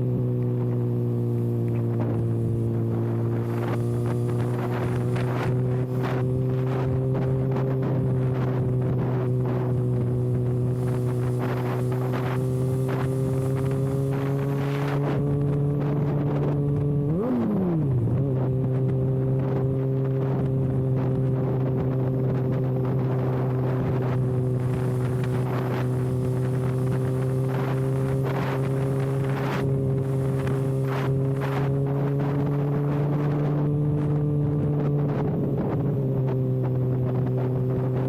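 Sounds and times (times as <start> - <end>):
motorcycle engine riding: 0.0 - 38.0
wind rushing over microphone: 0.0 - 38.0.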